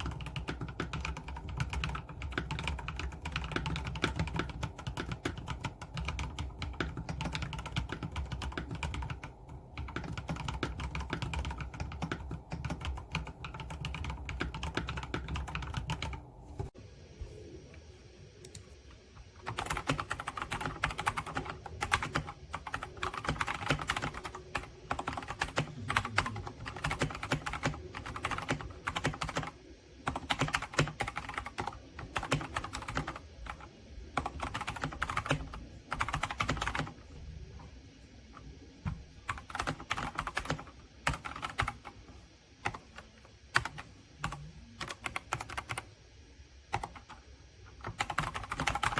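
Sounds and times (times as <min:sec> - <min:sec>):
fast typing on mechanical keyboard: 0:00.0 - 0:16.2, 0:19.4 - 0:37.0, 0:39.3 - 0:41.9, 0:42.6 - 0:43.0, 0:43.6 - 0:45.8, 0:46.7 - 0:47.2, 0:47.8 - 0:48.9.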